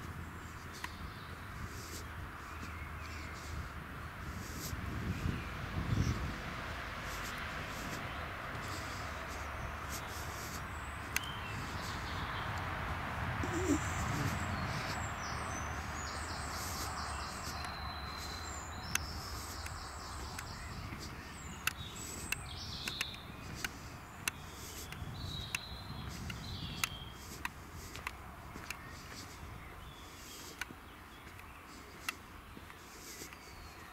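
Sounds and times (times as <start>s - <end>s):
songbirds chirping and warbling: 0.0s - 33.9s.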